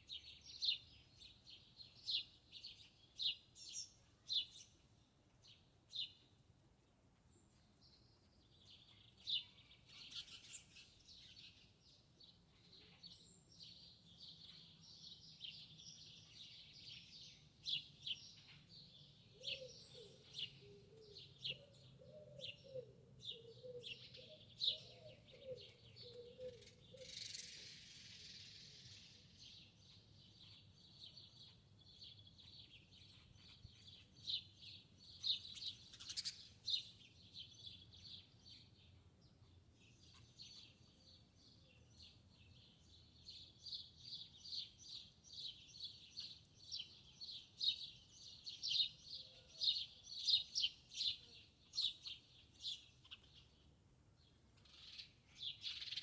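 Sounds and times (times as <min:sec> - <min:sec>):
small birds chirping: 0:00.0 - 0:06.5, 0:07.2 - 0:56.0.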